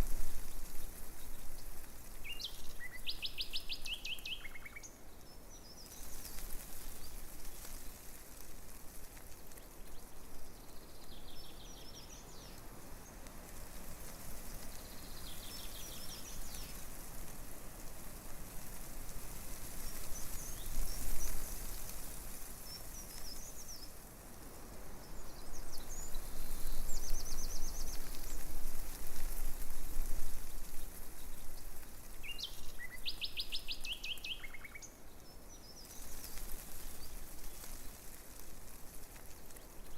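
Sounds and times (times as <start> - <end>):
small birds chirping: 0.0 - 24.1, 25.0 - 39.9
breeze rustling leaves: 0.0 - 39.9.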